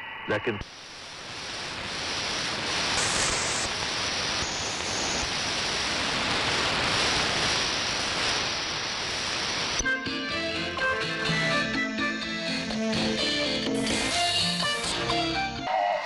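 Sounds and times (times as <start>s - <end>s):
shortwave radio hiss: 0.2s - 16.0s.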